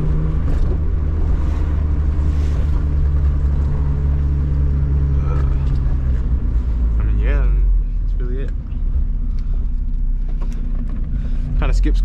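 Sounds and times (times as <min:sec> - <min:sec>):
car engine droning: 0:00.0 - 0:12.0
road noise: 0:00.0 - 0:12.0.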